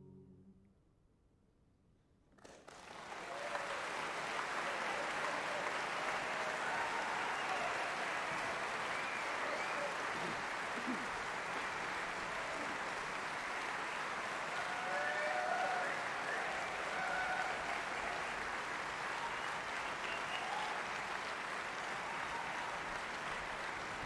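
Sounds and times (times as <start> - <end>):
audience applauding: 2.4 - 24.0
audience cheering: 2.7 - 24.0.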